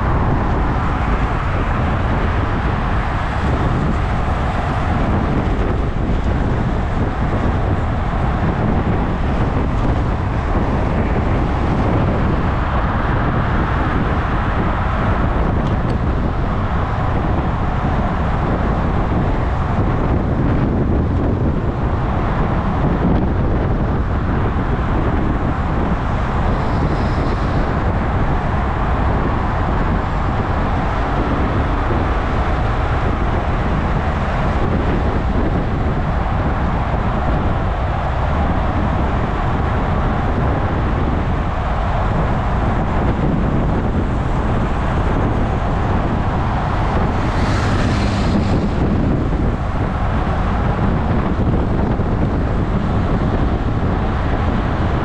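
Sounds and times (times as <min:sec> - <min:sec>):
car traffic: 0:00.0 - 0:55.0
wind rushing over microphone: 0:00.0 - 0:55.0.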